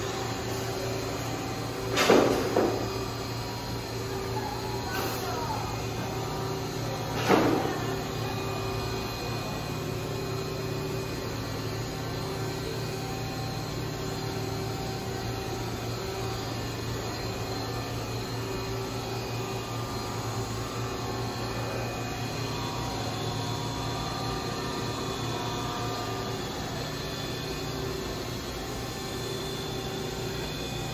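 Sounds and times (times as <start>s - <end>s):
mechanical drone with low hum: 0.0s - 30.9s.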